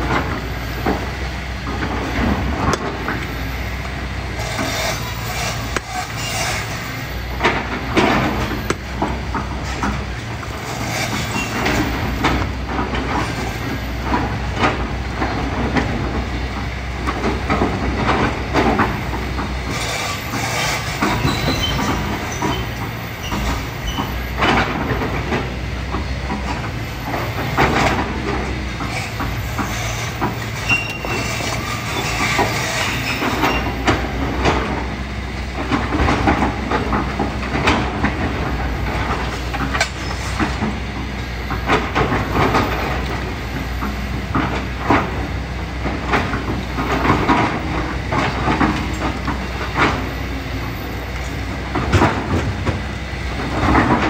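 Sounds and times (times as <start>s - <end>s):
excavator diesel engine running: 0.0s - 54.0s
bucket clanking and scraping: 4.4s - 16.2s, 17.1s - 54.0s.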